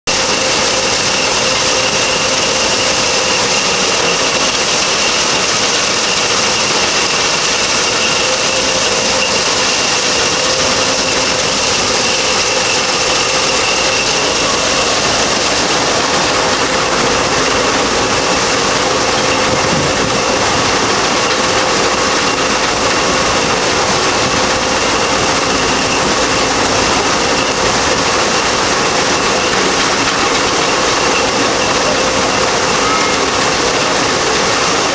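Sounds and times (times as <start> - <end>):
threshing machine running: 0.1 - 34.9.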